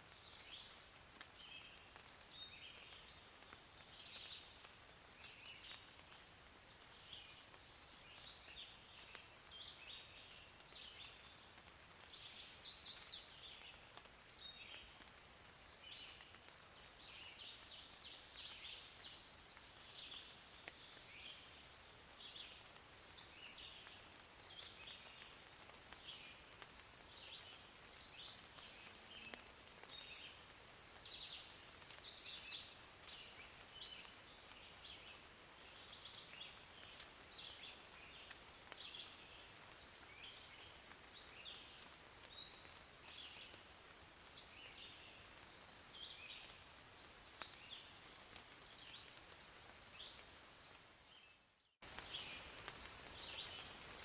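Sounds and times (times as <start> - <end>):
rain hiss: 0.0 - 54.0
small birds chirping and singing: 0.2 - 54.0.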